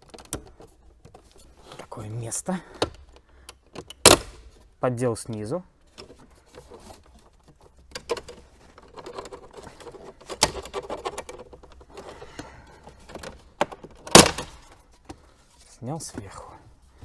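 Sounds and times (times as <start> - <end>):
plastic trim clicking and rattling: 0.0 - 15.4.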